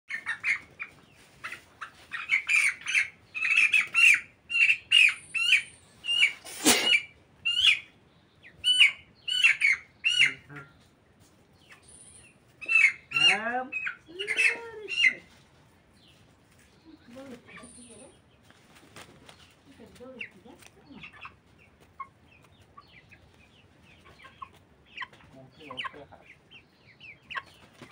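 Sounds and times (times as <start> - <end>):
chickens calling: 0.1 - 27.9.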